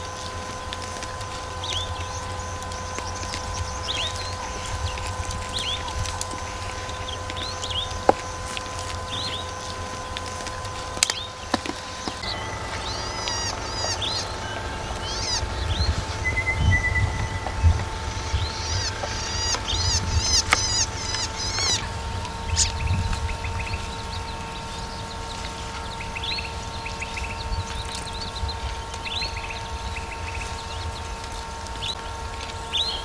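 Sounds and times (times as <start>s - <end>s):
low steady rumble: 0.0s - 33.0s
small birds chirping: 0.0s - 33.0s.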